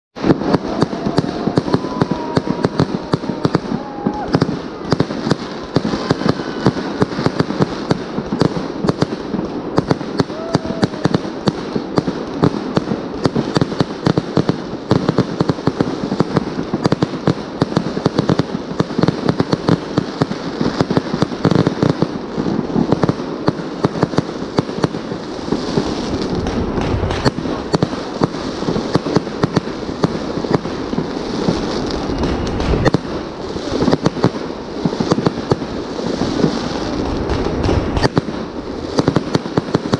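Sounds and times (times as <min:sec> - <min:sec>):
fireworks bangs and crackles: 0:00.1 - 0:39.9.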